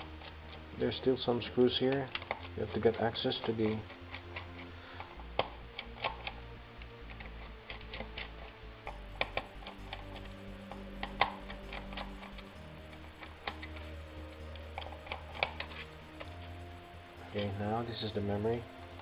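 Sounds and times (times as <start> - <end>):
steady low hum: 0.0 - 19.0
screwdriver clicks and ticks: 1.8 - 19.0.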